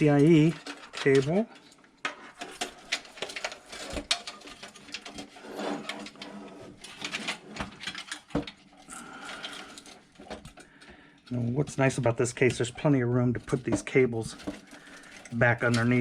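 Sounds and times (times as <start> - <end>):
cables rustling: 0.0 - 16.0.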